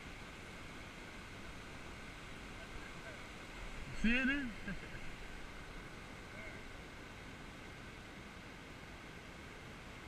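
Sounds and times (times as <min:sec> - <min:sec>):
ocean surf hiss: 0:00.0 - 0:10.0.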